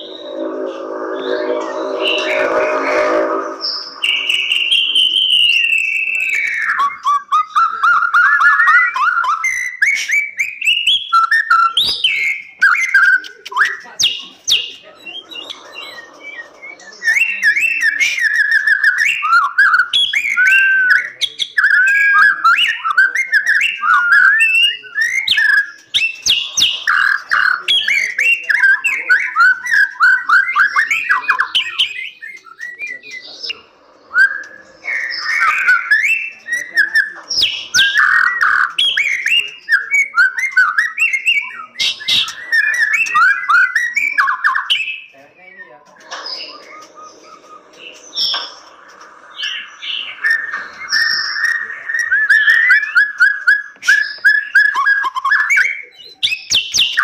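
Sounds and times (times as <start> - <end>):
bird singing whistled phrases: 0.0 - 57.0.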